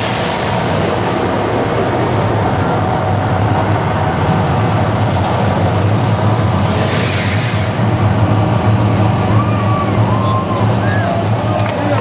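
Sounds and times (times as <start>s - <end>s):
loud low rumble: 0.0s - 12.0s
rushing noise: 0.0s - 12.0s.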